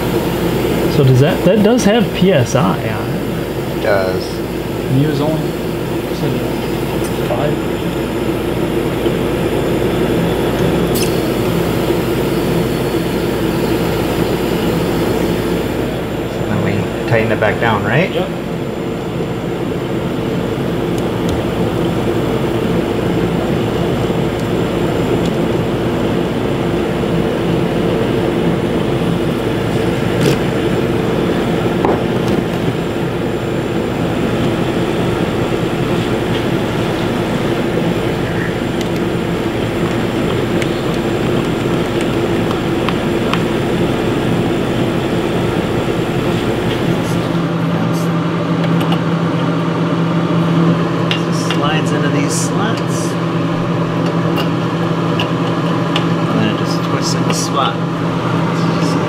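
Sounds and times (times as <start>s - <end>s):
condenser fan noise: 0.0s - 59.0s
fridge compressor hum: 0.0s - 59.0s.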